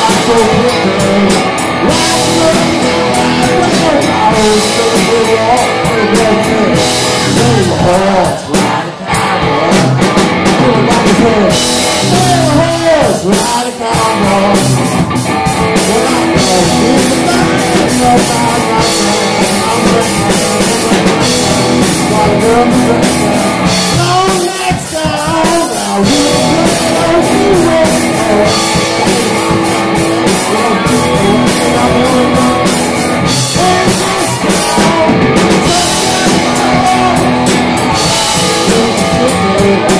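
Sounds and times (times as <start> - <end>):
drum kit: 0.0 - 39.9
electric guitar: 0.0 - 39.9
man singing: 0.0 - 39.9.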